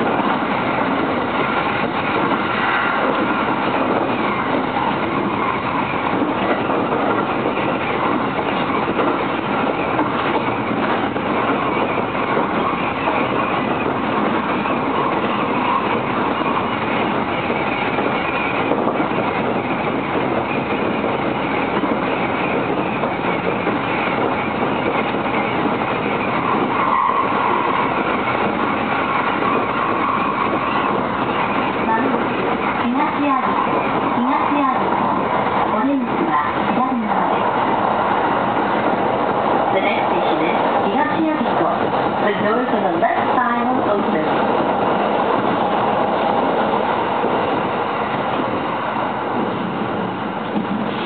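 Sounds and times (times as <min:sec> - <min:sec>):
train running on rails: 0:00.0 - 0:51.0.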